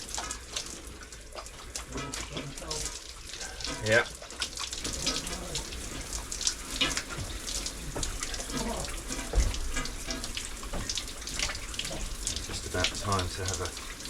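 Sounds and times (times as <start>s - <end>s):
shower water spraying: 0.0s - 14.0s.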